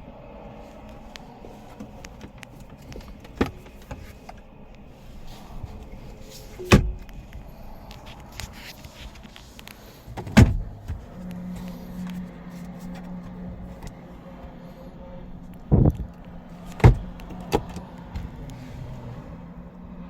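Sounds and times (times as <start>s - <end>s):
steady low hum: 0.0s - 20.0s
car door shutting: 0.9s - 9.4s, 10.0s - 14.6s, 15.6s - 19.3s.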